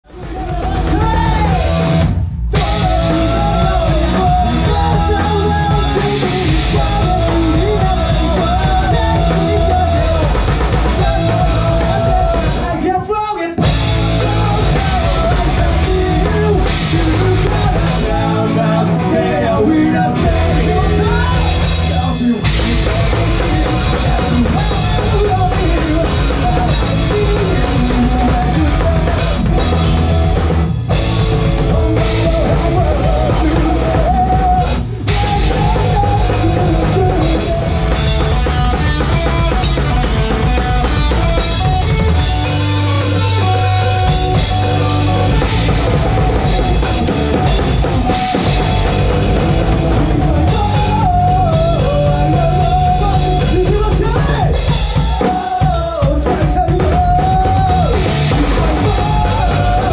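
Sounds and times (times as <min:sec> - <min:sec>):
person singing: 0:00.0 - 0:30.1, 0:31.0 - 0:59.9
drum kit: 0:00.0 - 0:59.9
electric guitar: 0:00.0 - 0:59.9.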